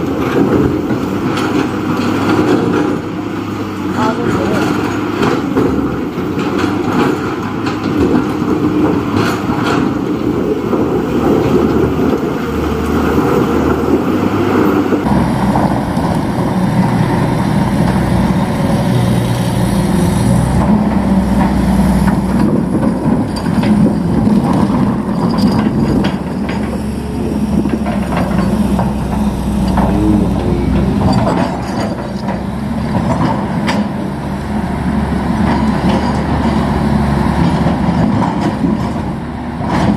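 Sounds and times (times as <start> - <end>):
diesel machinery engine rumble: 0.0 - 39.9
machinery clanking: 0.0 - 39.9.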